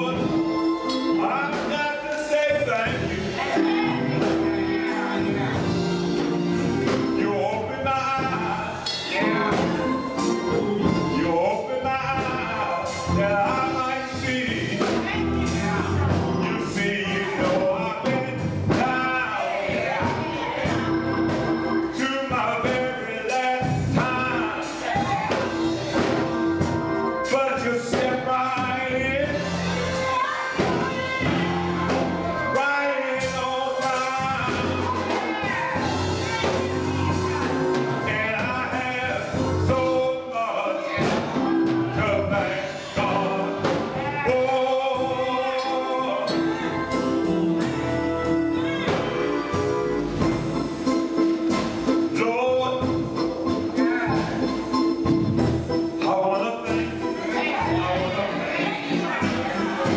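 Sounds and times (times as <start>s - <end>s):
gospel choir singing: 0.0s - 59.9s
keyboard: 0.0s - 59.9s.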